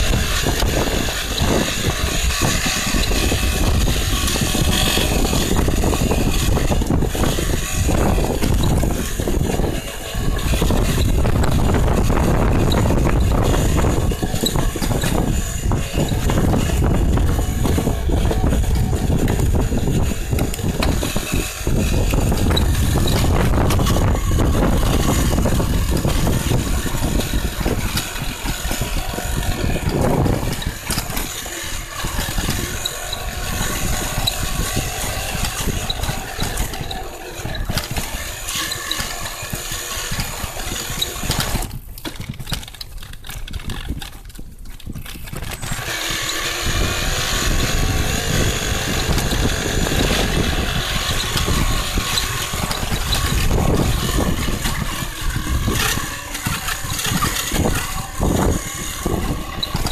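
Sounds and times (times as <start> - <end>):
bike tyres rattling over gravel: 0.0 - 59.9
wind on microphone: 0.0 - 59.9.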